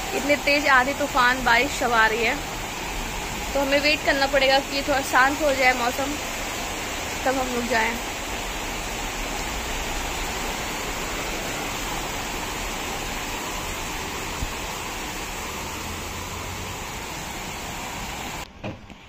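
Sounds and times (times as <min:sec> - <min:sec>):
strong wind: 0:00.0 - 0:18.4
rain: 0:00.0 - 0:19.0.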